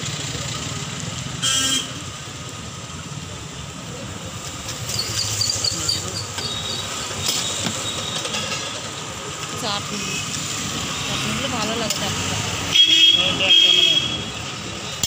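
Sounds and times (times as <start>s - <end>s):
road traffic noise: 0.0s - 15.0s
vehicle engine humming: 0.0s - 15.0s.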